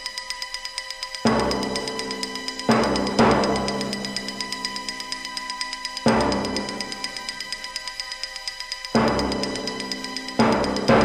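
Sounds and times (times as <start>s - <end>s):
music with ticking beat: 0.0s - 11.0s.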